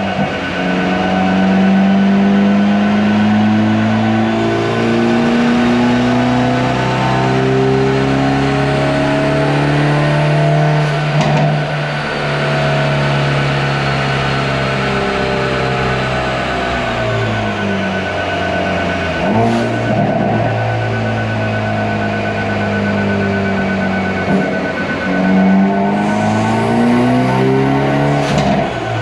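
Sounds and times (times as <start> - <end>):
turbocharged engine under load: 0.0 - 29.0.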